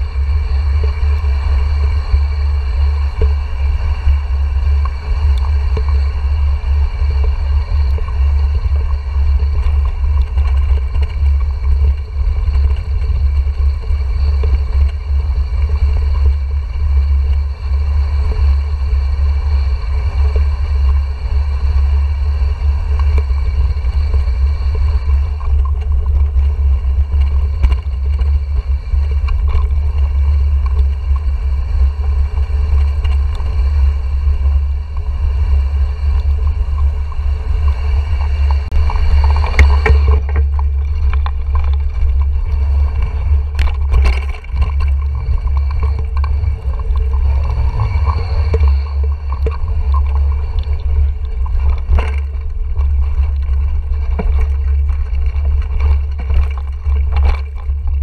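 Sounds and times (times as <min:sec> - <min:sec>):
wind rumble on microphone: 0:00.0 - 0:58.0
bike clicks and rattles: 0:02.2 - 0:58.0.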